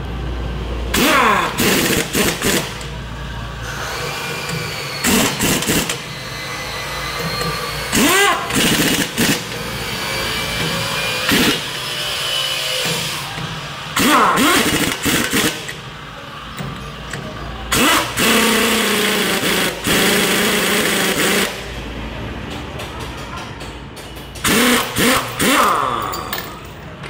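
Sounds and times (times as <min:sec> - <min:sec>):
pneumatic impact wrench bursts: 0:00.9 - 0:21.8, 0:24.4 - 0:26.7.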